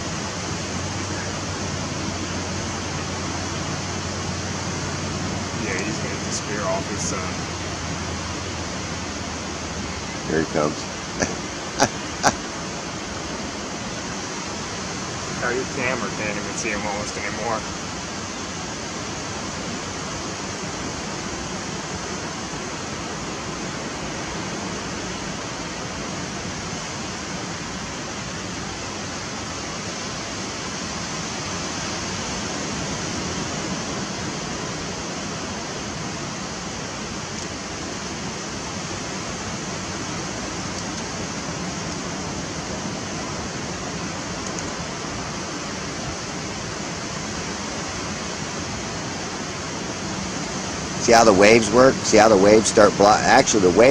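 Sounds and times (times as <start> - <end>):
ocean surf and wind hiss: 0.0 - 53.9.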